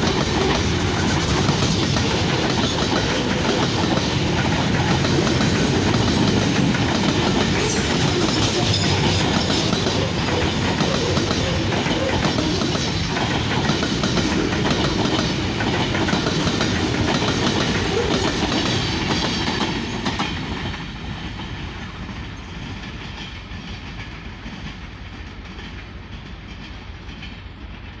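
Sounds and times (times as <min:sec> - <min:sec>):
wheels clicking over rail joints: 0:00.0 - 0:27.8.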